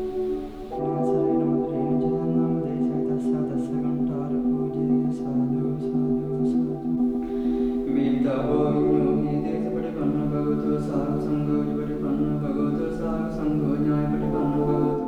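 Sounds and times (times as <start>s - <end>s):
chant-like singing: 0.0s - 15.0s.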